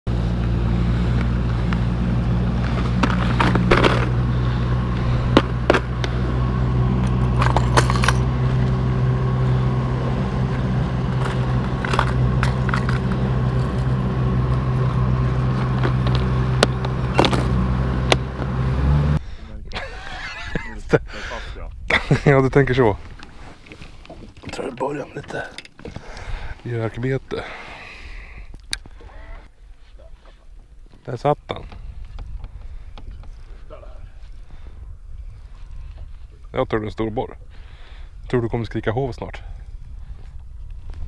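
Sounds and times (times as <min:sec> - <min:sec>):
outboard motor droning: 0:00.1 - 0:21.5, 0:22.1 - 0:41.0.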